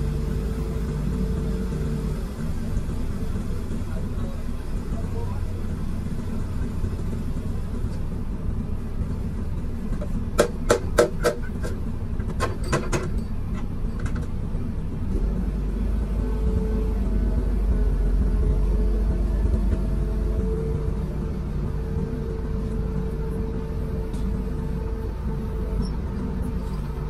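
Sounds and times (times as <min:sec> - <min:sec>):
steady hum: 0:00.0 - 0:12.5, 0:13.2 - 0:27.0
excavator diesel engine running: 0:00.0 - 0:27.0.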